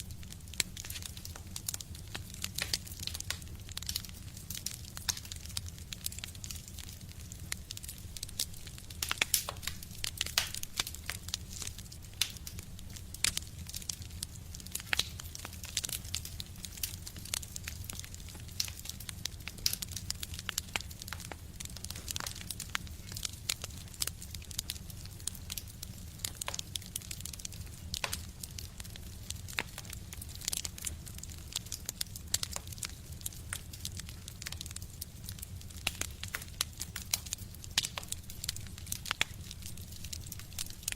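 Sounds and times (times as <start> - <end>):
stove low rumble: 0.0 - 40.9
wood fire crackling: 0.0 - 40.9.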